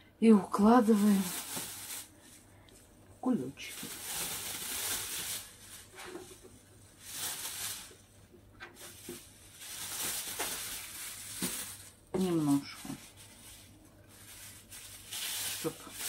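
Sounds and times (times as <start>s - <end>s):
plastic bag rustling: 0.5s - 16.0s.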